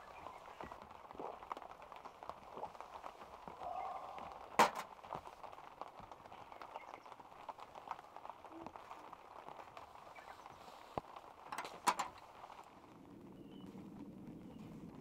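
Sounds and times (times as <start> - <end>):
light rain tapping: 0.0 - 15.0.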